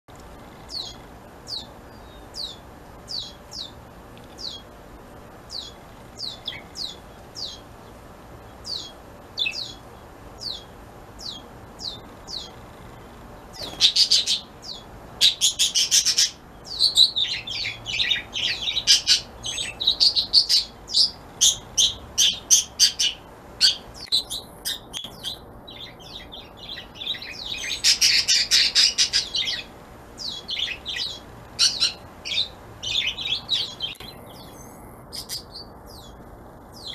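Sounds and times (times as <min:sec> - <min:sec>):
fledgling bird chirping: 0:00.3 - 0:04.8, 0:05.4 - 0:36.9.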